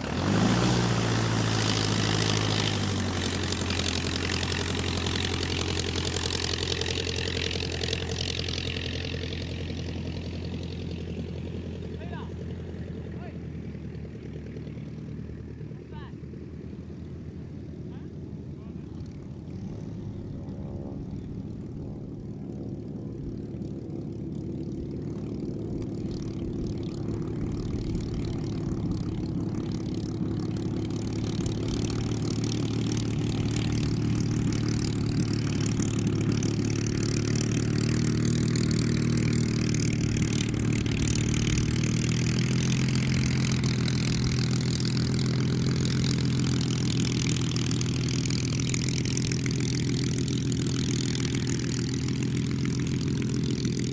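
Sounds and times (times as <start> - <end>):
propeller aircraft engine drone: 0.0 - 53.9.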